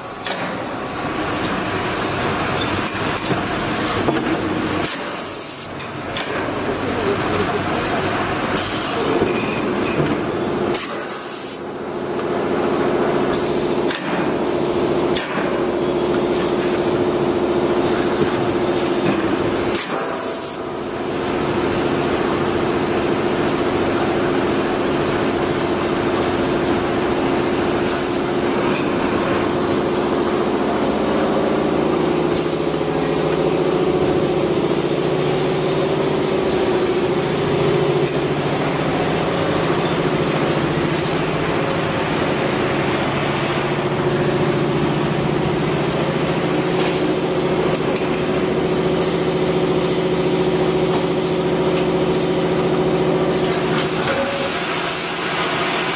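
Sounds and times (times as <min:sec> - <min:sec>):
machinery humming and hissing: 0:00.0 - 0:55.9.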